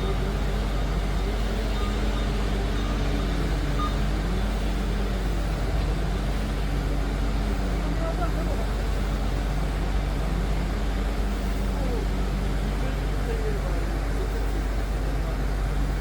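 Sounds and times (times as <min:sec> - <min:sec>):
diesel engine rumbling under load: 0:00.0 - 0:16.0.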